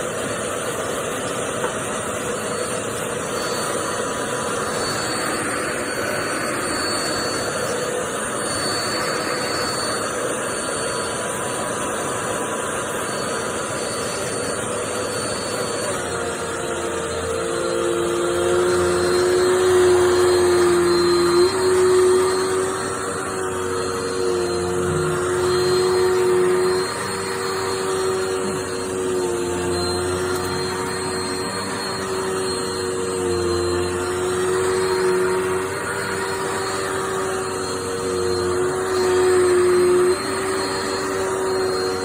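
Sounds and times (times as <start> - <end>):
vacuum cleaner motor whine: 0.0 - 42.0.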